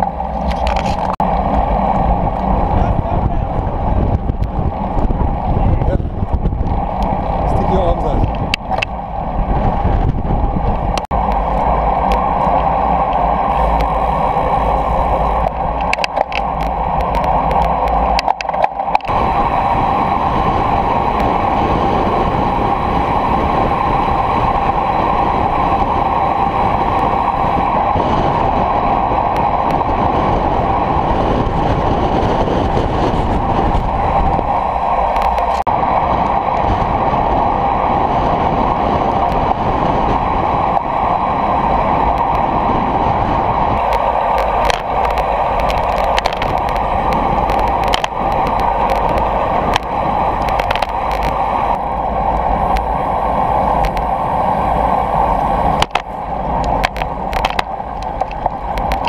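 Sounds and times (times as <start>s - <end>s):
bicycle tyre noise: 0.0s - 59.0s
rushing wind: 0.0s - 59.0s.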